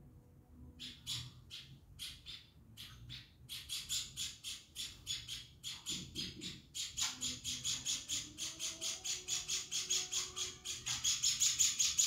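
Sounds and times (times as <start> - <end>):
sparrow chirping: 0.8 - 12.0.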